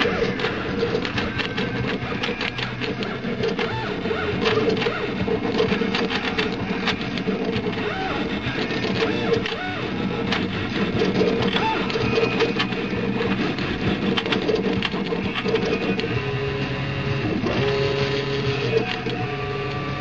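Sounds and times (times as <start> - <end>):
plotter motors humming and ticking: 0.0 - 20.0
short whining tones: 0.0 - 20.0.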